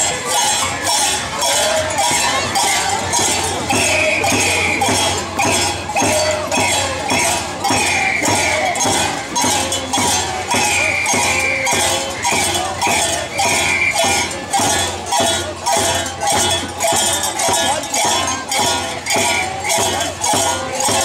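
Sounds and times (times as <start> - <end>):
metallic percussion beat: 0.0 - 21.0.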